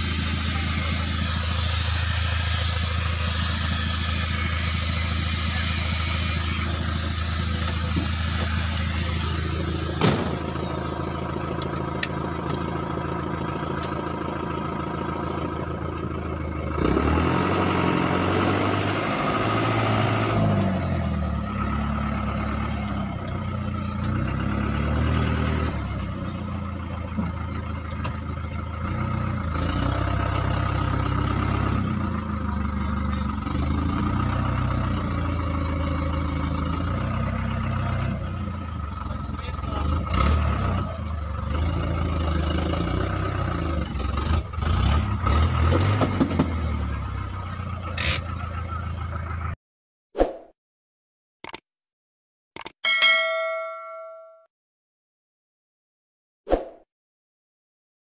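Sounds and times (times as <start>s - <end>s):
vehicle engine running: 0.0s - 49.6s.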